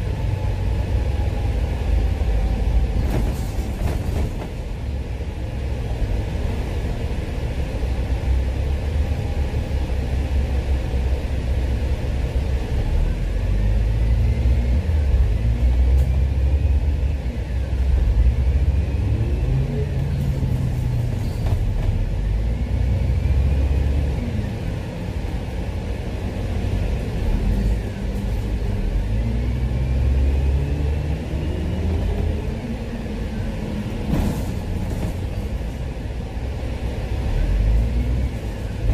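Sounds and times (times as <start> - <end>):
bus engine accelerating through gears: 0.0 - 38.9.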